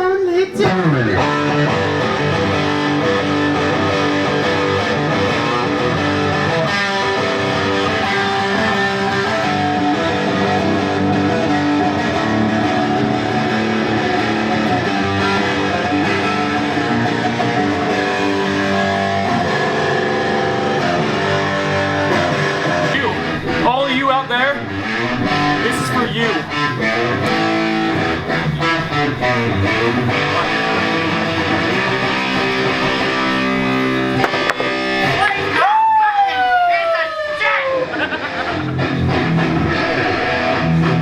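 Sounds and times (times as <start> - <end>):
electric guitar riff: 0.0 - 41.0.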